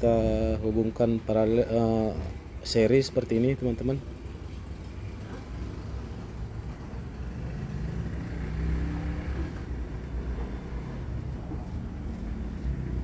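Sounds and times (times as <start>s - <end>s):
passing vehicle engine rumble: 0.0s - 13.0s.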